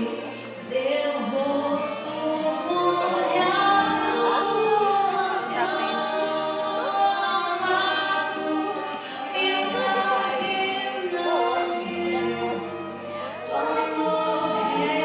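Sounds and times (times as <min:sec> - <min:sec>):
voices singing in harmony: 0:00.0 - 0:15.0.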